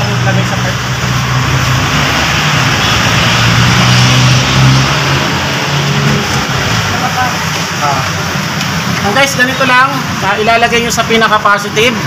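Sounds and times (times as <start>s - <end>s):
traffic noise: 0.0s - 12.0s
vehicle engine humming: 0.0s - 12.0s.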